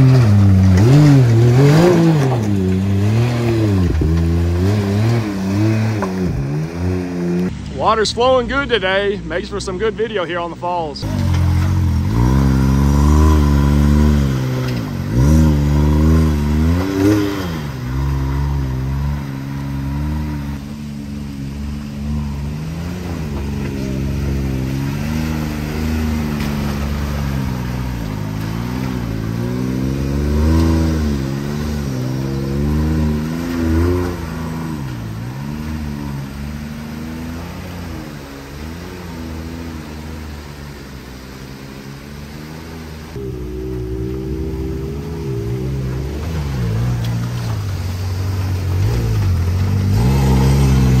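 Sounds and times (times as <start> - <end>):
creek flowing: 0.0 - 51.0
off-road vehicle engines revving: 0.0 - 51.0.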